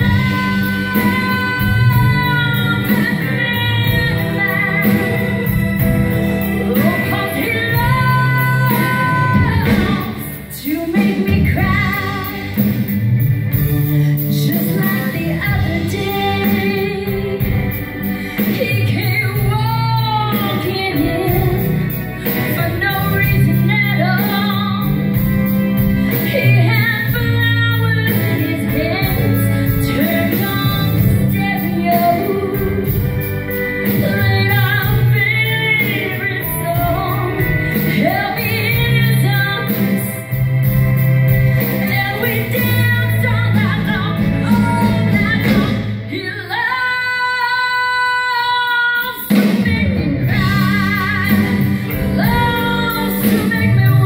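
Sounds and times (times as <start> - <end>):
woman singing with vibrato: 0.0 - 12.9, 14.1 - 54.0
drums: 0.0 - 54.0
guitars: 0.0 - 54.0
keyboards: 0.0 - 54.0.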